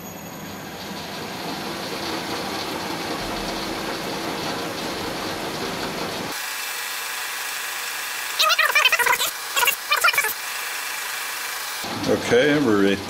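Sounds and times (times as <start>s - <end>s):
metal lathe machining: 0.0s - 8.4s, 9.3s - 13.0s.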